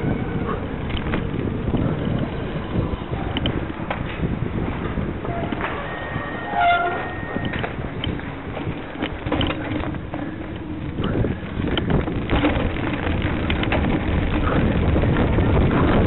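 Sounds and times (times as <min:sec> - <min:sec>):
bike rattling and knocking: 0:00.0 - 0:16.0
bike tyres rumbling on cobblestones: 0:00.0 - 0:16.0
wind buffeting microphone: 0:00.0 - 0:16.0.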